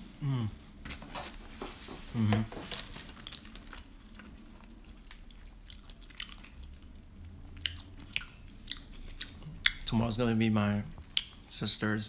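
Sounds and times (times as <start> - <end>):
people chewing: 0.2 - 10.0, 10.9 - 11.6.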